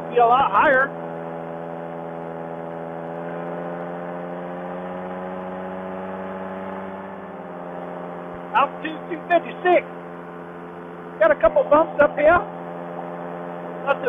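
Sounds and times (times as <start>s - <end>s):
paramotor engine and propeller: 0.0s - 14.0s.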